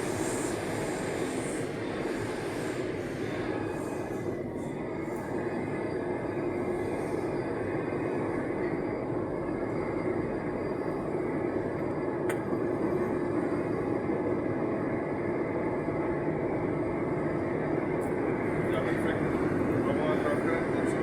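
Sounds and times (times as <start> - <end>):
metro train running noise: 0.0 - 21.0.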